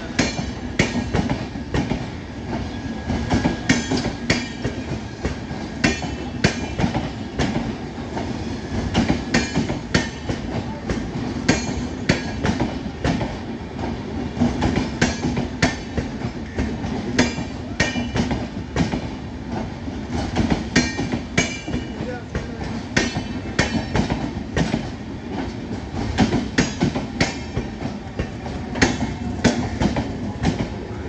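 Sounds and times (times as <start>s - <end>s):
wheels clacking over rail joints: 0.0s - 30.8s
train wheels rumbling on rails: 0.0s - 31.0s.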